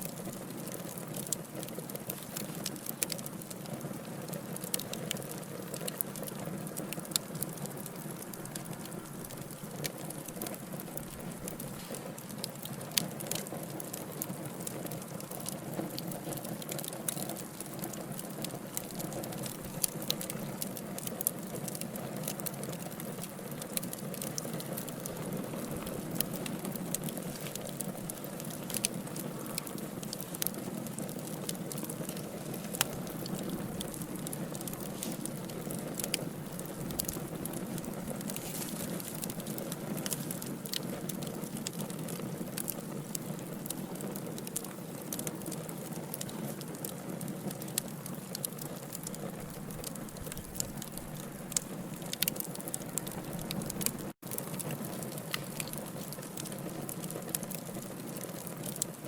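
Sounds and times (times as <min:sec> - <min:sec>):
logs crackling and popping: 0:00.0 - 0:59.0
fire flames rushing: 0:03.9 - 0:58.8.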